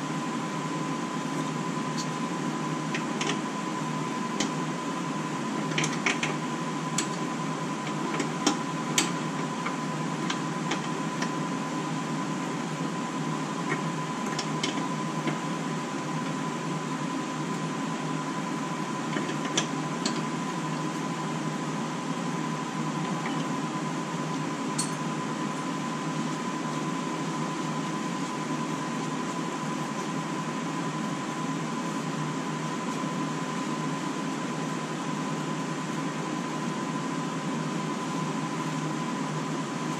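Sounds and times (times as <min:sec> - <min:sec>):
fan-like hum: 0:00.0 - 0:39.9.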